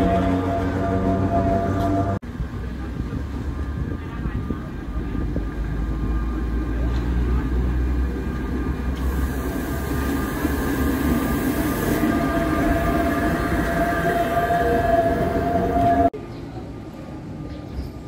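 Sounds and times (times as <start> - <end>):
tram wheels rumbling on rails: 0.0 - 18.0.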